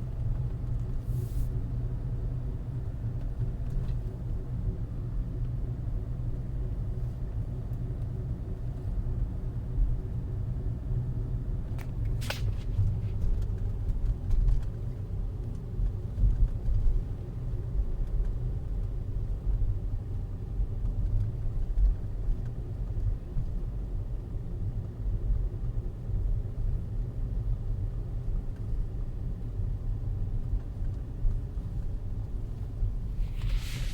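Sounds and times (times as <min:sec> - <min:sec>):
car pulsating hum and rumble: 0:00.0 - 0:33.9.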